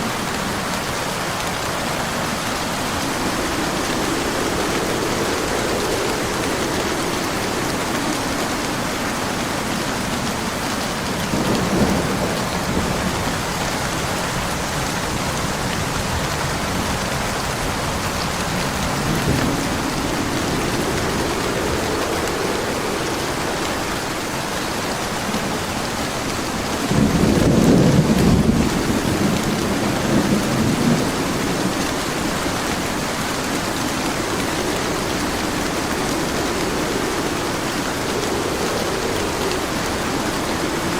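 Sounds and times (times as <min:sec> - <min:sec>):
steady rain: 0:00.0 - 0:40.9
rolling thunder: 0:01.2 - 0:40.9.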